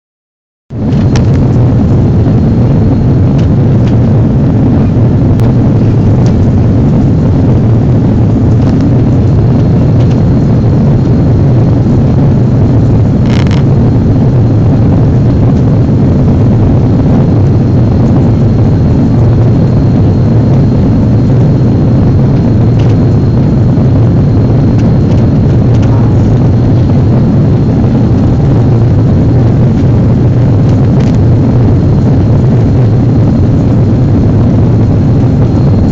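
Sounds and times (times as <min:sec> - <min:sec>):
aircraft cabin drone: 0:00.7 - 0:35.9
faint high whine: 0:00.7 - 0:35.9.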